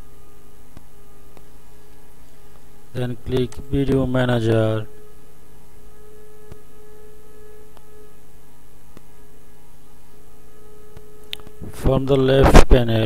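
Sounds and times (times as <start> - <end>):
steady electrical hum: 0.0 - 13.0
steady pitched tone: 0.0 - 13.0.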